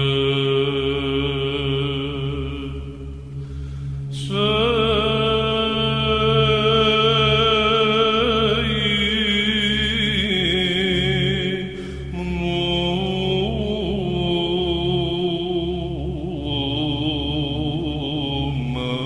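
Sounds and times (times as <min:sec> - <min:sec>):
low drone: 0:00.0 - 0:19.0.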